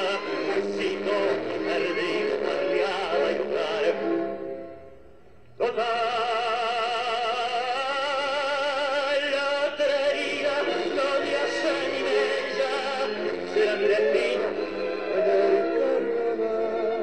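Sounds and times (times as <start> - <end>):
tango music: 0.0 - 17.0.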